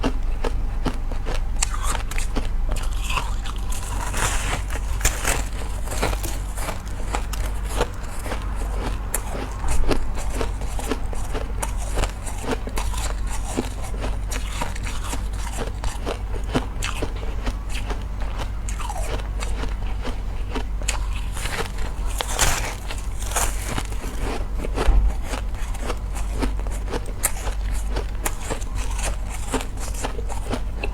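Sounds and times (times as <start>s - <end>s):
ice crunching while chewed: 0.0s - 30.9s.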